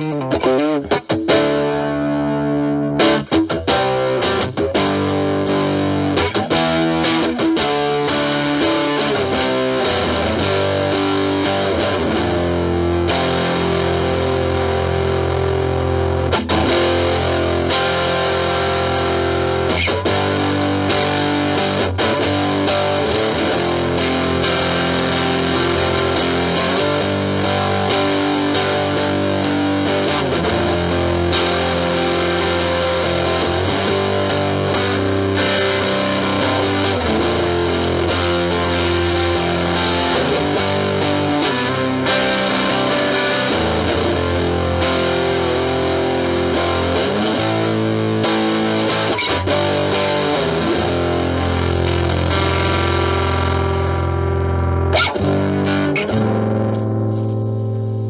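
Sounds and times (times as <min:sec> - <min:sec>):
fuzz electric guitar chords: 0:00.0 - 0:58.0.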